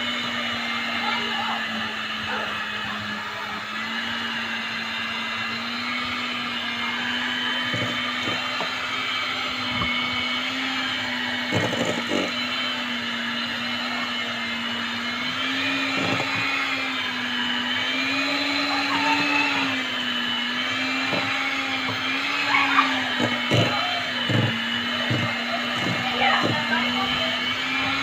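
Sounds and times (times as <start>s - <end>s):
electric hand mixer running: 0.0s - 28.0s.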